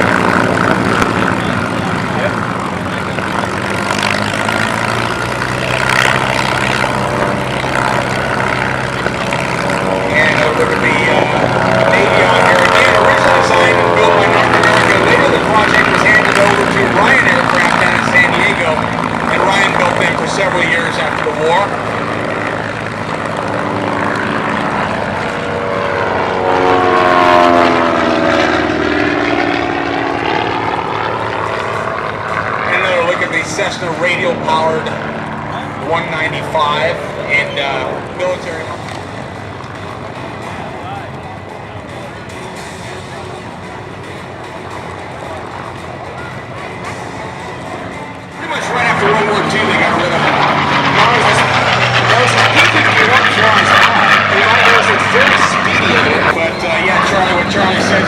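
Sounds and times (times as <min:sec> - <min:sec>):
propeller aircraft engine running: 0:00.0 - 0:58.0.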